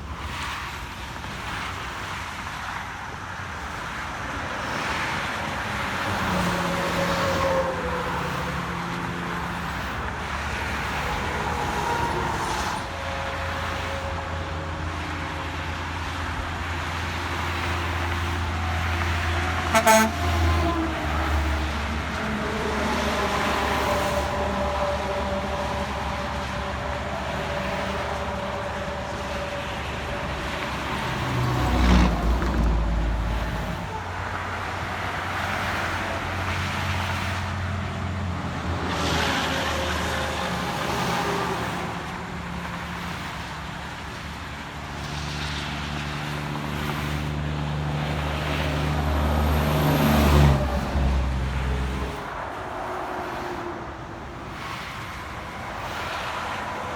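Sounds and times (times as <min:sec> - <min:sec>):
vehicles passing: 0:00.0 - 0:56.9.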